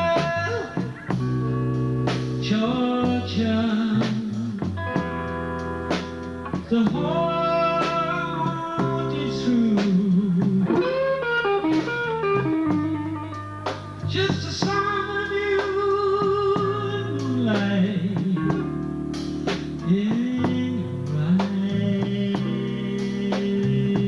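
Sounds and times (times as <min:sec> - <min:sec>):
man singing blues: 0:00.0 - 0:05.4, 0:06.4 - 0:24.0
guitar: 0:00.0 - 0:24.0.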